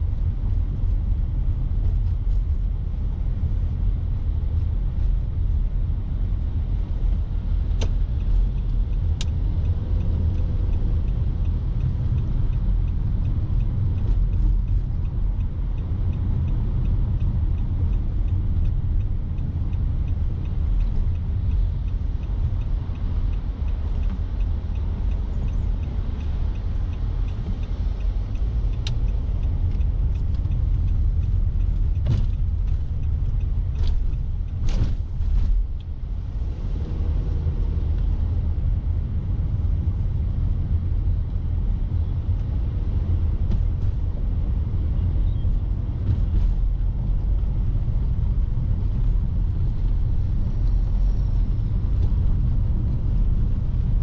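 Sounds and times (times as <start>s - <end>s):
car tyres and engine rumble: 0.0s - 54.0s.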